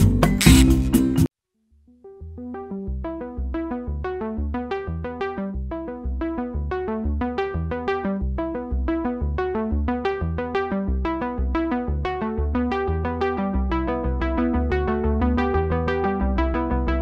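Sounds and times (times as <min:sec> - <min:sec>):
background music with pulsing bass: 0:02.1 - 0:17.0.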